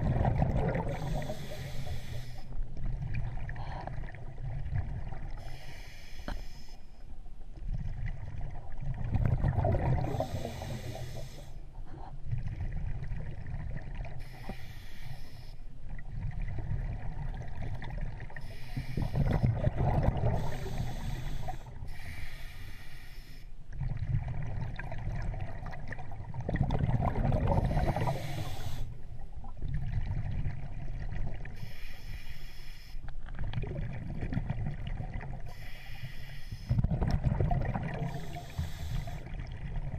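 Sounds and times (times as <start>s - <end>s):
exhaled bubbles gurgling underwater: 0.0s - 23.0s, 23.7s - 32.3s, 33.0s - 39.9s.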